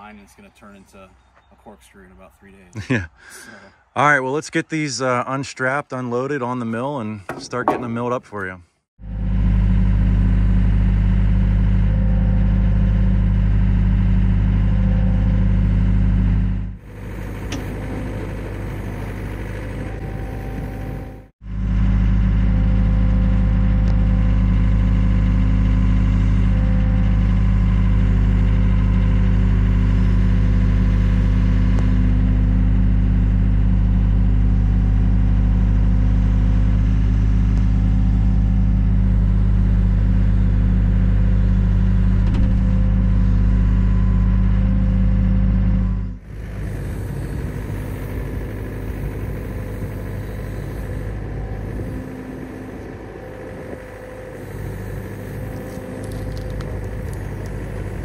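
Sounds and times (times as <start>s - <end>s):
excavator engine running: 9.0s - 58.0s.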